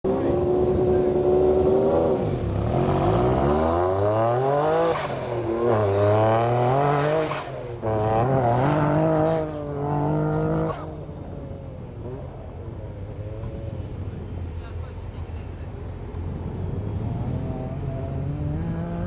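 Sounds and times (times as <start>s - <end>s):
sports car engine accelerating: 0.1s - 19.0s.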